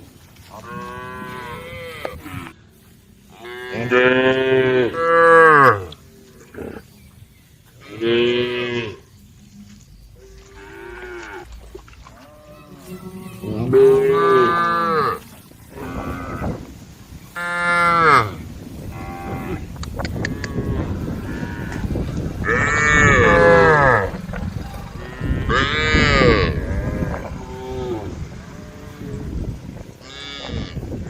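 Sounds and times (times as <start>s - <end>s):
cows mooing: 0.5s - 2.5s, 3.3s - 6.8s, 7.8s - 16.7s, 17.4s - 31.0s.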